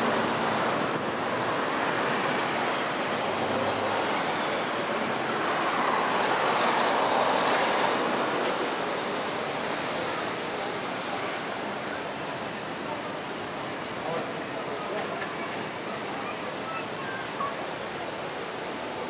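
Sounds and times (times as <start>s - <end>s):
street traffic rushing: 0.0s - 19.0s.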